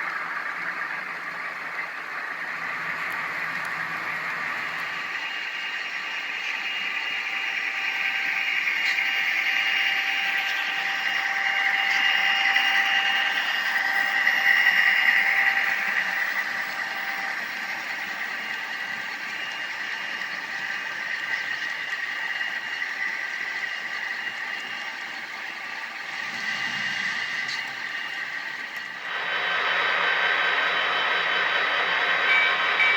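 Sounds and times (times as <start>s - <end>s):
model train mechanical hum: 0.0s - 32.9s.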